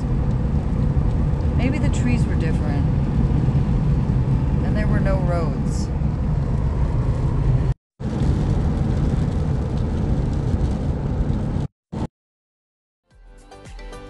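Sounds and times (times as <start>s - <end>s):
road noise inside van: 0.0s - 12.1s.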